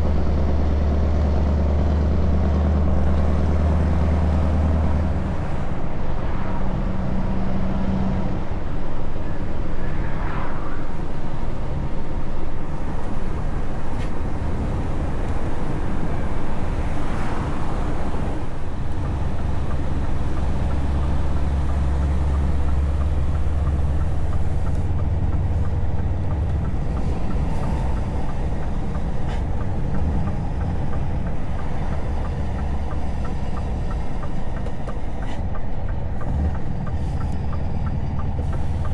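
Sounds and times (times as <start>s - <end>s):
road noise: 0.0s - 38.9s
truck engine deep drone: 0.0s - 38.9s.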